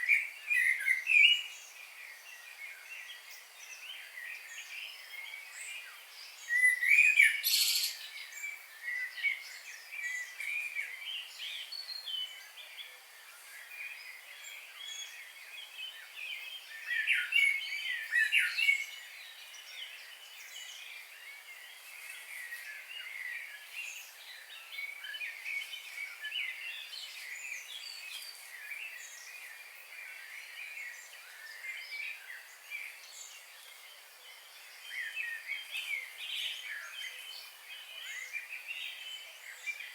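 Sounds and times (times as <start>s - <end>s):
faint background hiss: 0.0s - 39.9s
songbirds chirping and singing: 0.0s - 39.9s.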